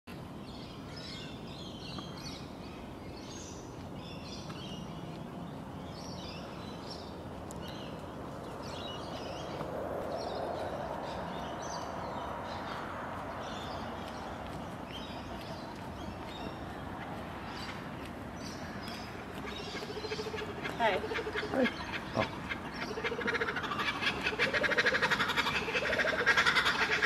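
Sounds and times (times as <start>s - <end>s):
outdoor background noise: 0.1s - 27.0s
birds chirping: 0.4s - 27.0s.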